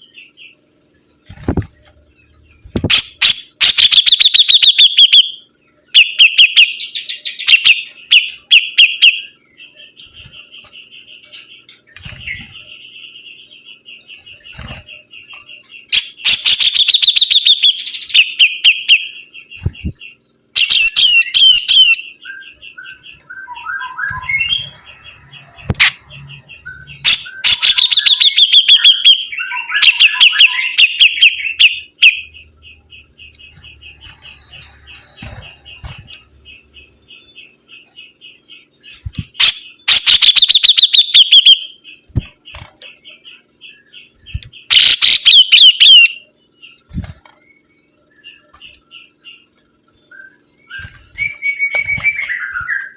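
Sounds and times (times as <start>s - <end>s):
songbird singing: 0.0s - 52.9s.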